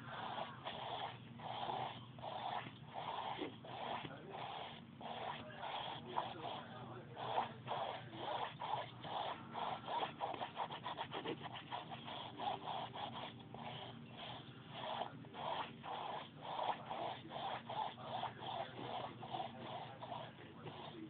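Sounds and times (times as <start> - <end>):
foam wedge scrubbing canvas: 0.0 - 21.0.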